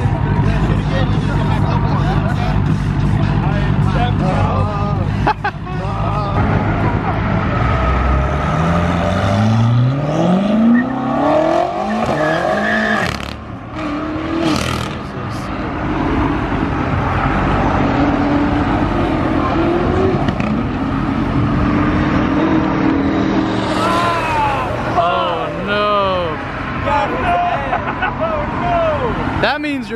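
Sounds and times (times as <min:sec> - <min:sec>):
car engine revving: 0:00.0 - 0:27.1.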